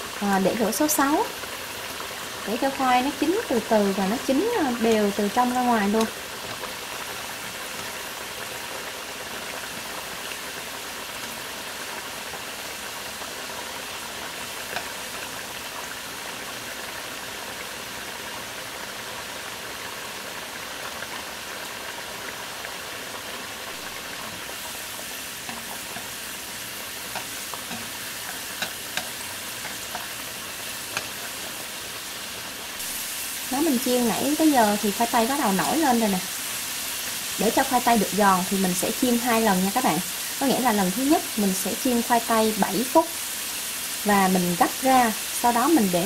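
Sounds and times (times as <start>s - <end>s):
oil sizzling while deep-frying: 0.0s - 46.0s.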